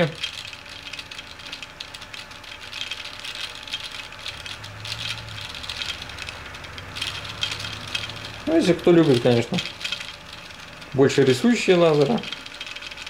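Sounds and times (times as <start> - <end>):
stepper motors rattling and ticking: 0.0 - 13.0.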